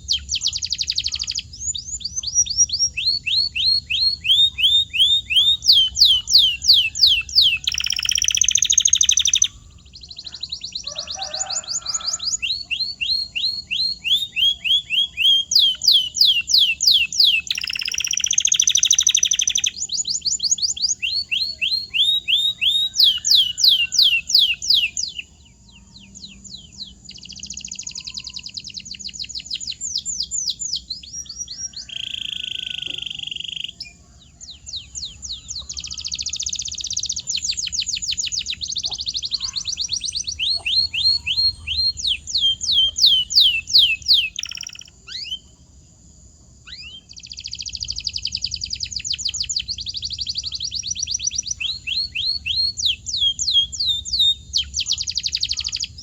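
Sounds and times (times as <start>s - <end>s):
canary singing: 0.0s - 45.6s, 46.6s - 56.0s.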